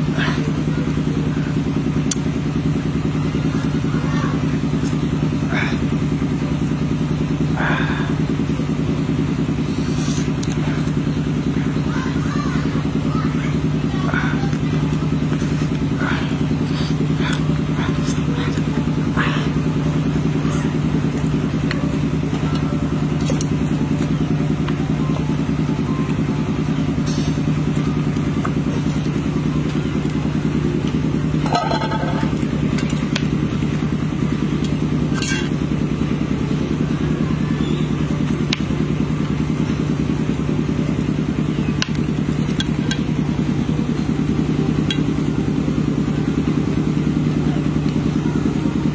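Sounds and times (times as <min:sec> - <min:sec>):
low engine-like drone: 0:00.0 - 0:48.9.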